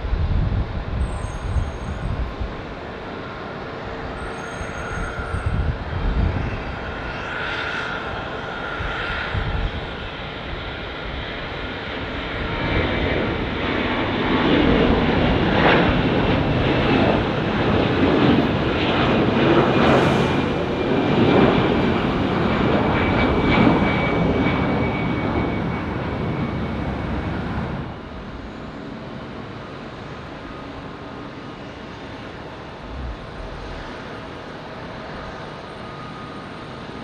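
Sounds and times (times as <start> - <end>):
jet engines at takeoff power: 0.0 - 37.0
quiet steady jet engine: 0.0 - 37.0.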